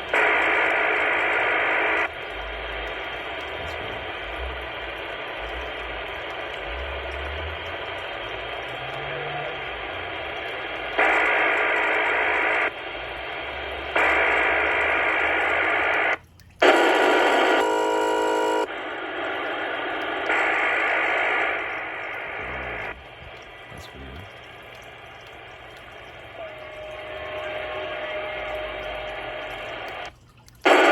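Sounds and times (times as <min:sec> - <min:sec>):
radio static hiss: 0:00.0 - 0:25.5, 0:26.2 - 0:30.9
steady radio tones: 0:00.0 - 0:30.9.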